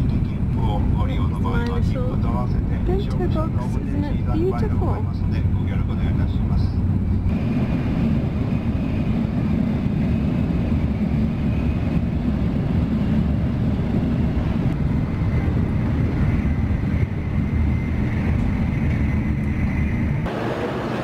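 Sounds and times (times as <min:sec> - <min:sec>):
train rumbling at speed: 0:00.0 - 0:21.0.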